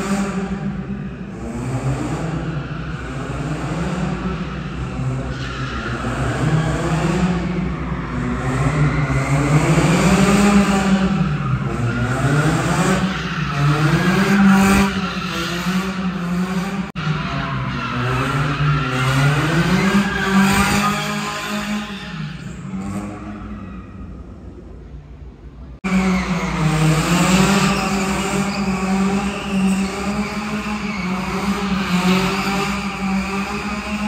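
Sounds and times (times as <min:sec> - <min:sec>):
car engine revving: 0:00.0 - 0:23.5, 0:25.8 - 0:34.0.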